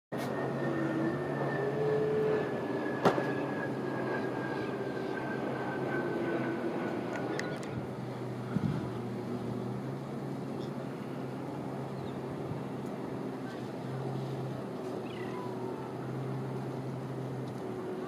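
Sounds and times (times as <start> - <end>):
watercraft engine humming: 0.2 - 18.0.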